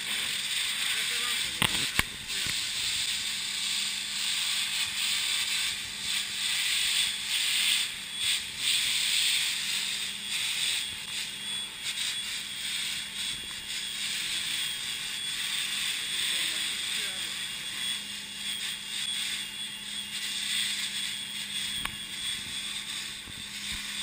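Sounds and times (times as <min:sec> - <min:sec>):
pressure washer jet hissing on metal: 0:00.0 - 0:24.0.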